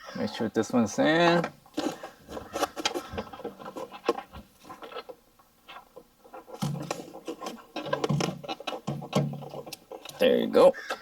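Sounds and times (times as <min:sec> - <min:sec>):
plastic parts clicking and scraping: 0:01.3 - 0:11.0.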